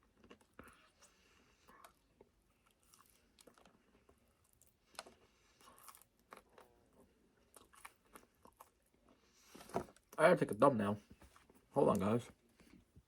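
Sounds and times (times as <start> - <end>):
chewing with soft crunches: 0.0 - 10.3, 11.0 - 13.0.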